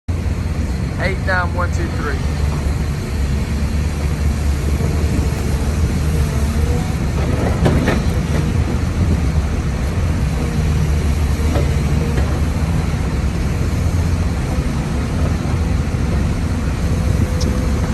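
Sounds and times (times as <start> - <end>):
excavator diesel engine running: 0.1 - 17.9.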